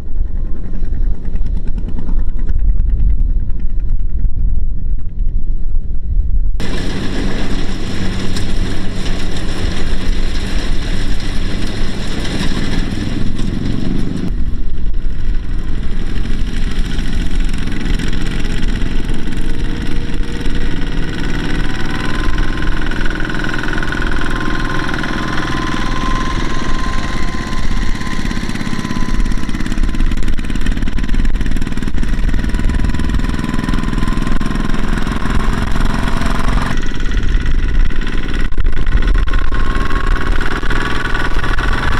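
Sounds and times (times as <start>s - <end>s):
diesel engine running steadily: 0.0s - 5.5s, 6.4s - 41.9s.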